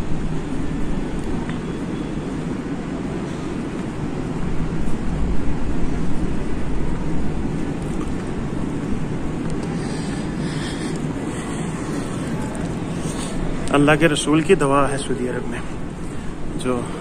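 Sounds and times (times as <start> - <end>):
low rumbling store background: 0.0 - 17.0.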